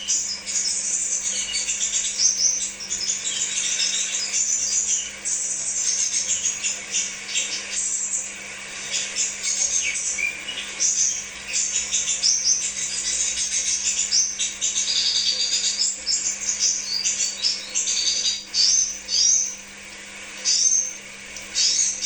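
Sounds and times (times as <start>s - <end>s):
bird twittering: 0.0s - 22.0s.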